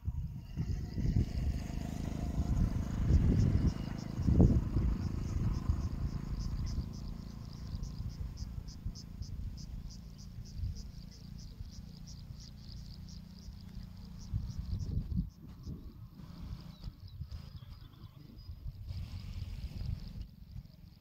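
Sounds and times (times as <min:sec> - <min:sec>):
cricket chirping: 0:00.0 - 0:21.0
wind rumble on microphone: 0:00.0 - 0:21.0.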